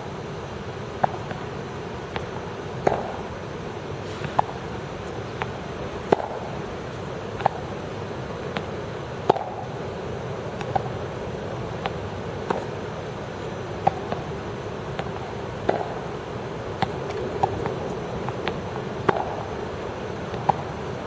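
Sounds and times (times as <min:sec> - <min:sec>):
tennis balls bouncing on court: 0:01.0 - 0:03.4, 0:04.2 - 0:21.0
tennis balls hit with rackets: 0:01.0 - 0:03.4, 0:04.1 - 0:07.8, 0:08.5 - 0:12.8, 0:13.4 - 0:21.0.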